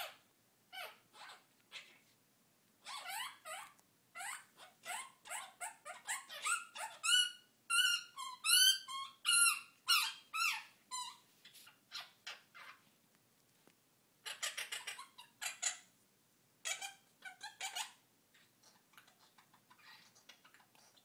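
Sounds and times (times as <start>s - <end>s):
parrot squawking: 0.0s - 2.0s, 2.8s - 12.8s, 14.2s - 15.9s, 16.6s - 21.0s.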